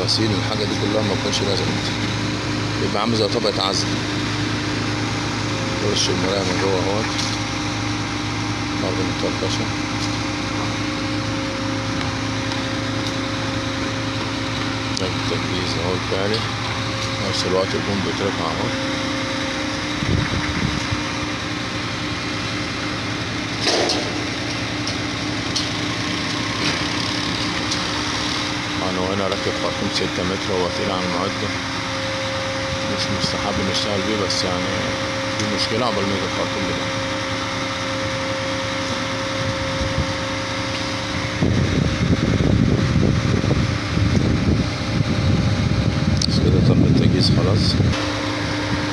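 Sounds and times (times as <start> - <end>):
hydraulic hum: 0.0 - 48.9
rough rumble: 0.0 - 48.9
truck engine running: 0.0 - 48.9.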